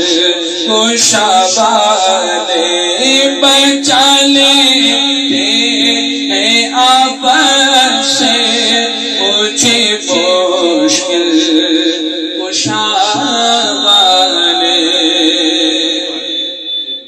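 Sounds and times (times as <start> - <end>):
steady droning background: 0.0 - 16.7
man singing with reverb: 0.0 - 17.0.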